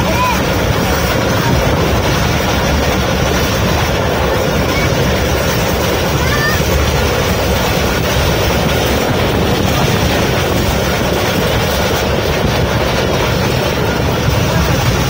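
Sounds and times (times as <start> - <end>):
train wheels rumbling on rails: 0.0 - 15.0
wind rushing in: 0.0 - 15.0.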